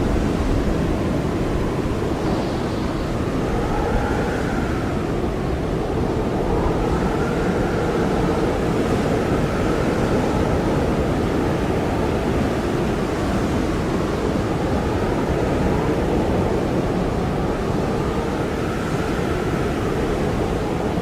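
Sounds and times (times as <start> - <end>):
blizzard wind howling: 0.0 - 21.0.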